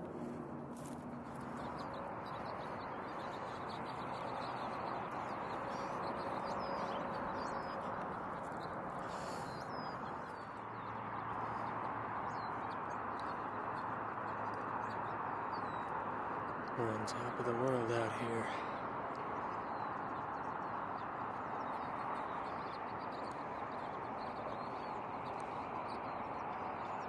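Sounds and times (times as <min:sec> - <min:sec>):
distant freeway traffic: 0:00.0 - 0:27.0
small birds chirping: 0:00.0 - 0:27.0.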